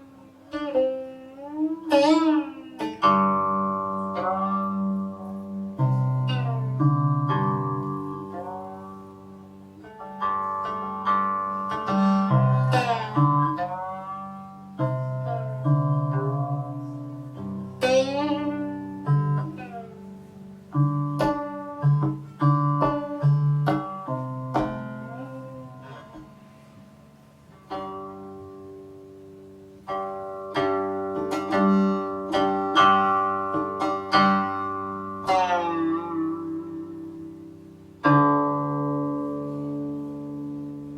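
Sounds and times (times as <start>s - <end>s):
plucked zither notes: 0.0s - 40.9s.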